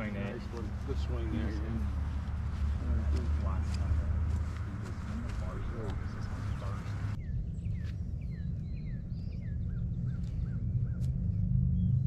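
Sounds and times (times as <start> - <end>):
steady low rumble: 0.0 - 12.0
songbird calling: 1.5 - 12.0.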